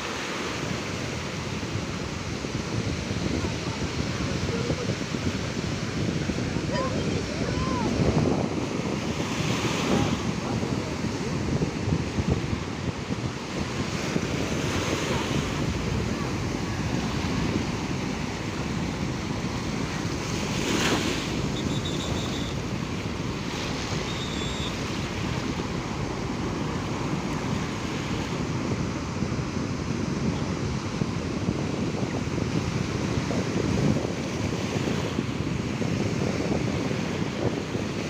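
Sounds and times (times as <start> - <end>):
sea waves washing onto shore: 0.0 - 38.0
wind buffeting microphone: 0.0 - 38.0.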